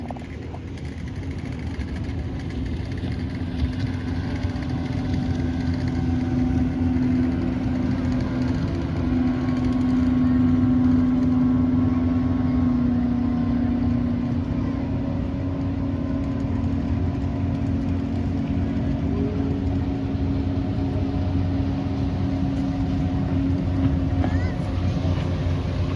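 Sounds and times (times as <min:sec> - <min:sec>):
boat engine running: 0:00.0 - 0:25.9.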